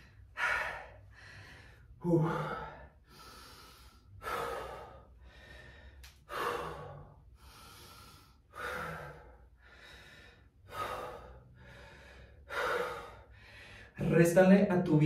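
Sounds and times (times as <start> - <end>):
person breathing deeply: 0.0 - 14.0.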